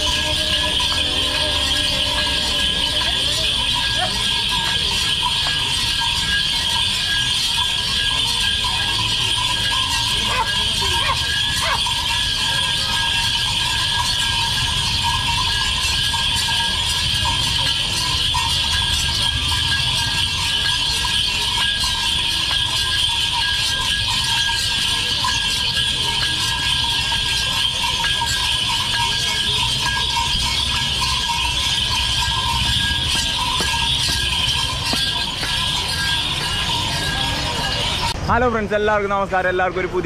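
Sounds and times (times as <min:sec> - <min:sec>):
shrill ringing: 0:00.0 - 0:38.2
crowd din: 0:00.0 - 0:40.0.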